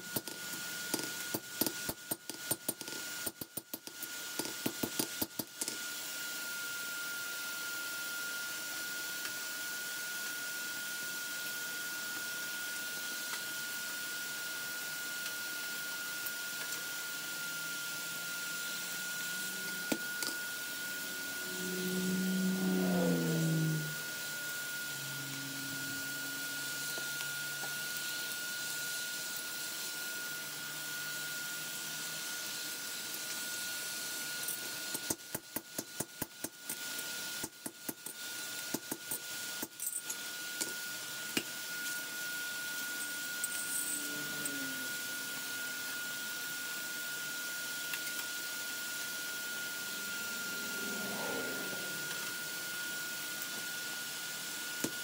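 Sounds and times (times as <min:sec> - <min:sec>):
steady high whine and hiss: 0:00.0 - 0:55.0.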